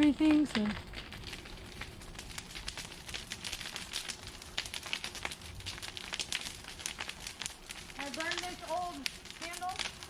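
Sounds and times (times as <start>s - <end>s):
brush fire crackling: 0.0s - 10.0s
sharp snaps and pops: 0.0s - 10.0s.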